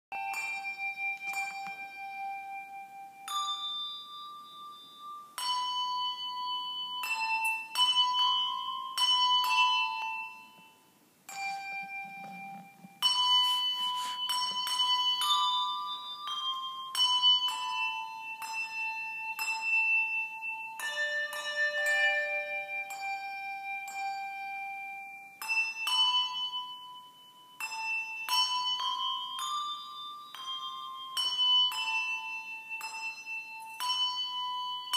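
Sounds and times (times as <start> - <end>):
handbells playing a tune: 0.1 - 34.9.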